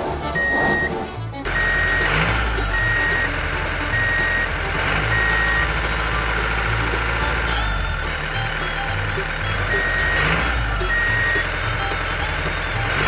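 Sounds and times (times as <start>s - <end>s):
low engine rumble: 0.0s - 13.0s
truck reversing alarm beeping: 0.0s - 13.0s.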